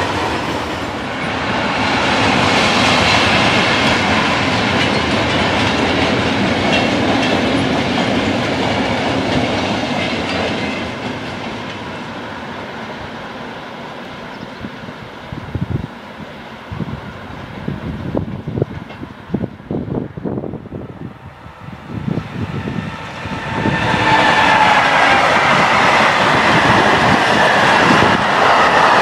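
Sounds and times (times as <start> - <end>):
freight train rolling on rails: 0.0 - 29.0.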